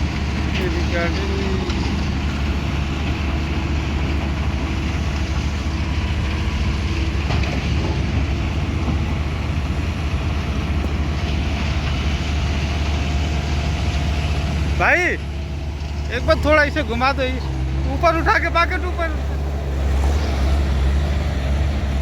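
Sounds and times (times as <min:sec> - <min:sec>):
heavy diesel engine drone: 0:00.0 - 0:22.0.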